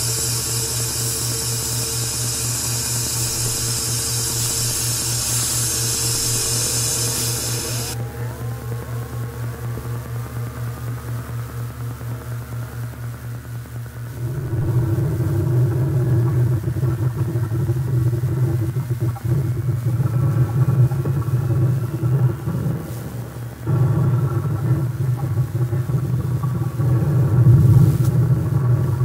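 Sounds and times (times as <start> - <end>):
pulsing electronic drone: 0.0 - 12.9, 13.6 - 29.0.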